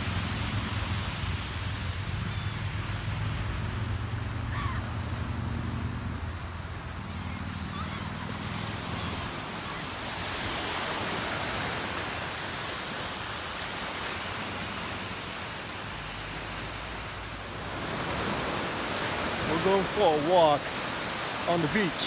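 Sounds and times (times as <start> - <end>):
ocean surf washing onto beach: 0.0 - 22.0.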